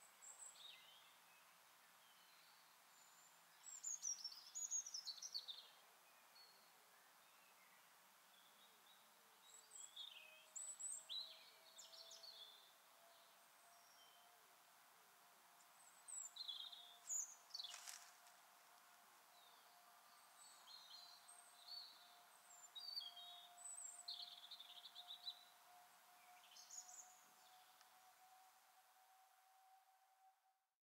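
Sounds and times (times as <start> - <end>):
faint birdsong chirps: 0.0 - 30.8.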